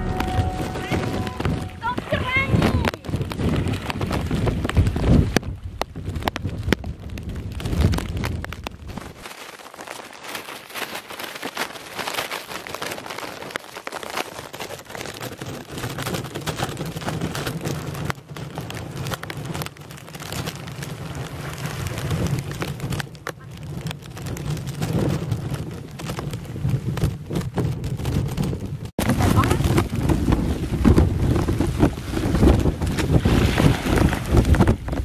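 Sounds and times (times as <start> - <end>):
rain falling: 0.0 - 35.0
wind rumble on microphone: 0.0 - 35.0.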